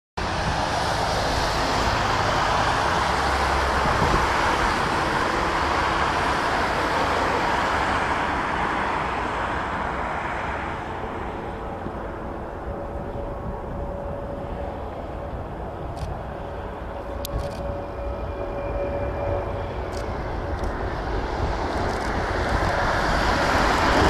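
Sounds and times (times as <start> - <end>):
jet engines whining: 0.2 - 24.0.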